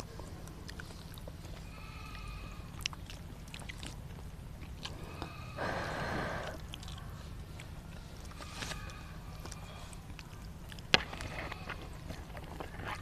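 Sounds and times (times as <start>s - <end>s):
chewing with small clicks: 0.0s - 5.5s, 6.3s - 13.0s.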